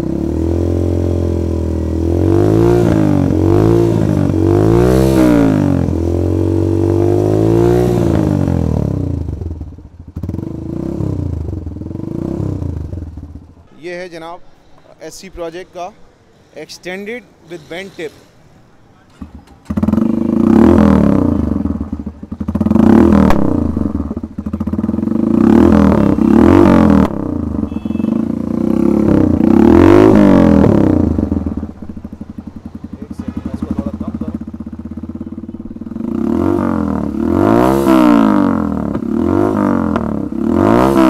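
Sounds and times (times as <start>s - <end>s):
motorcycle engine revving: 0.0s - 13.6s, 19.2s - 41.0s.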